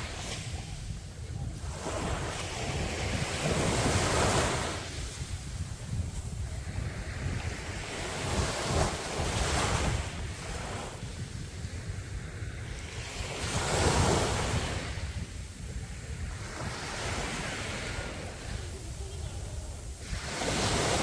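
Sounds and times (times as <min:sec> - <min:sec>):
sea waves breaking on a beach: 0:00.0 - 0:21.0
wind rumble on microphone: 0:00.0 - 0:21.0.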